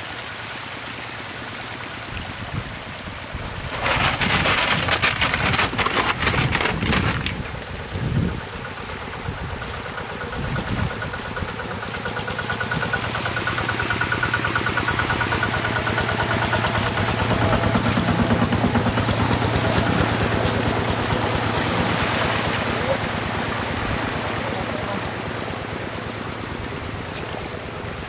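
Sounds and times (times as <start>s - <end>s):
water rushing: 0.0s - 28.0s
engine running: 3.2s - 28.0s.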